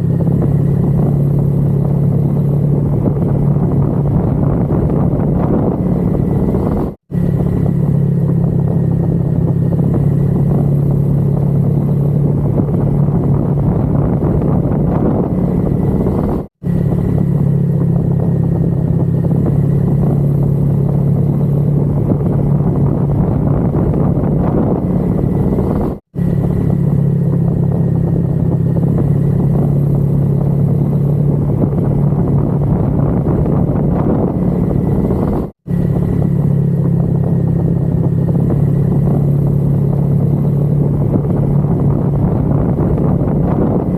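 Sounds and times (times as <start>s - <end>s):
motorcycle cruising: 0.0s - 43.9s.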